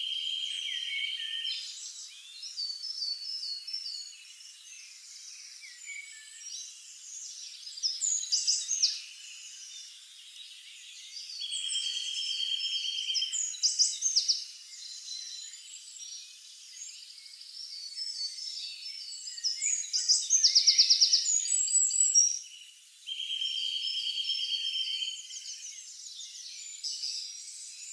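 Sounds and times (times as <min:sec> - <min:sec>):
songbirds singing and chirping: 0:00.0 - 0:27.9.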